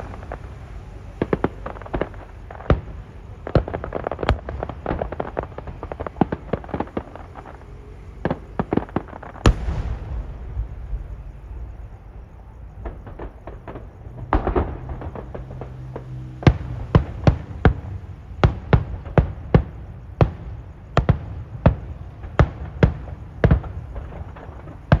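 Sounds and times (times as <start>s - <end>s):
fireworks bangs: 0.0s - 25.0s
fireworks crackling pops: 0.0s - 25.0s.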